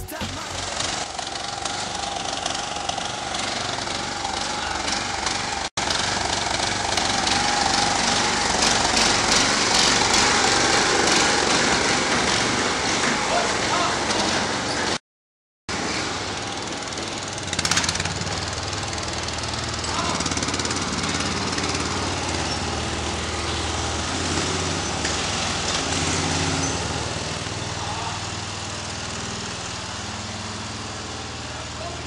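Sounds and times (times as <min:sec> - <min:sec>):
lawn mower engine running: 0:00.0 - 0:15.0, 0:15.7 - 0:32.0.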